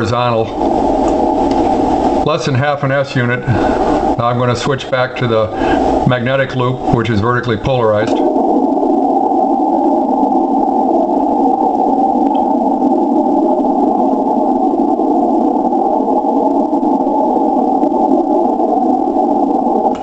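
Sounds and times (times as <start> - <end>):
muffled radio static hiss: 0.0 - 20.0.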